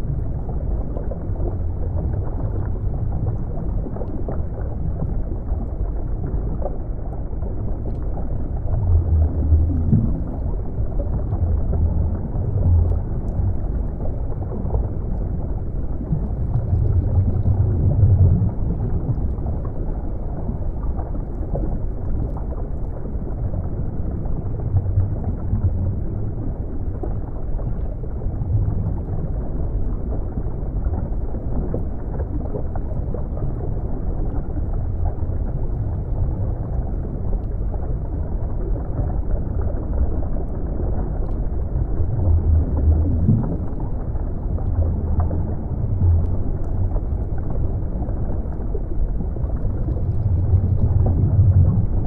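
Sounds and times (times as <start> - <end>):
muffled underwater rumble: 0.0 - 52.0.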